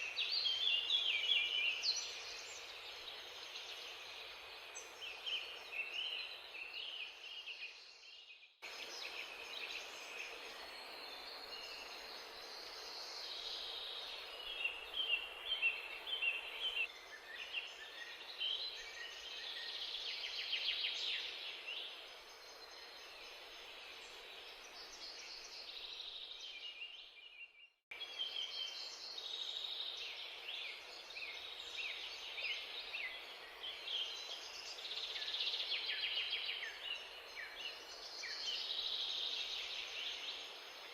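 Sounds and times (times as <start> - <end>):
steady background hiss: 0.0 - 27.0, 28.0 - 40.9
small birds chirping and trilling: 0.0 - 40.9.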